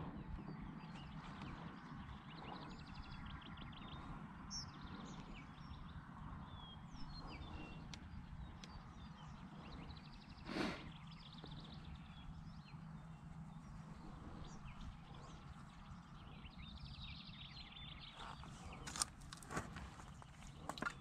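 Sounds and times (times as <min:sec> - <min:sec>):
faint bird chirps: 0:00.1 - 0:19.0.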